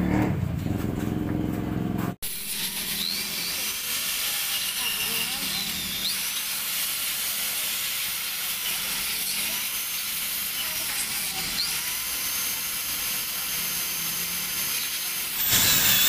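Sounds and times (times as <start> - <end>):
electric drill boring into steel: 2.2 - 16.0.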